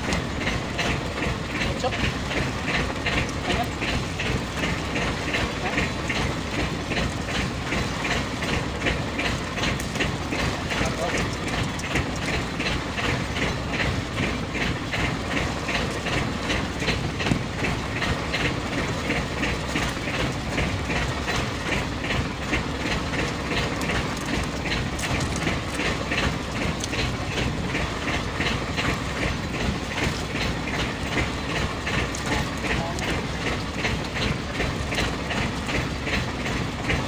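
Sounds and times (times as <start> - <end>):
boat engine rumbling and clacking: 0.0 - 37.0.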